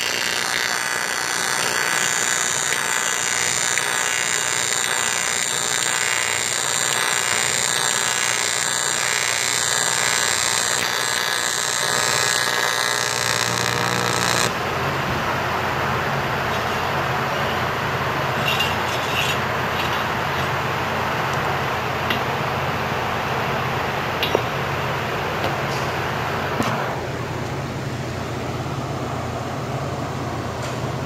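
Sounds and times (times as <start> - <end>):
welding arc buzzing hiss: 0.0 - 29.2
workshop hum: 0.0 - 31.0.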